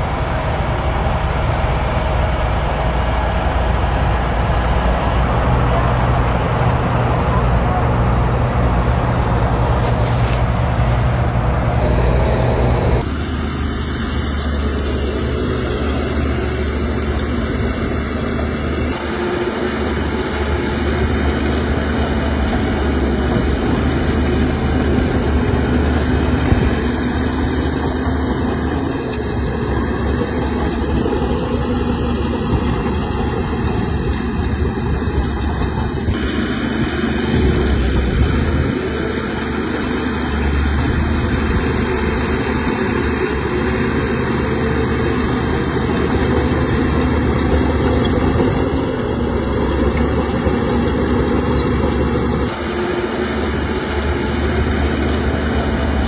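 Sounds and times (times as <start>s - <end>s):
heavy diesel engines humming: 0.0s - 56.0s.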